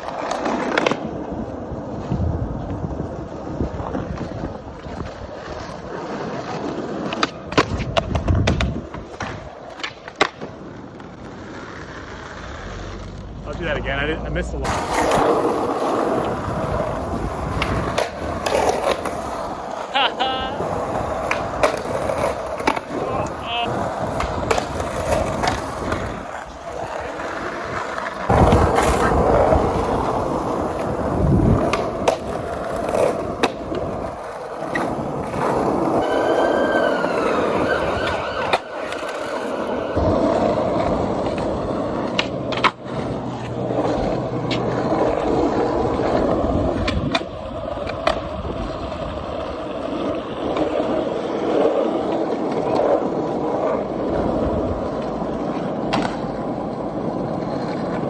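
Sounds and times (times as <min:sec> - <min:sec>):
skateboard clacking on ground: 0:00.0 - 0:58.0
skateboard wheels rolling on pavement: 0:00.0 - 0:58.0.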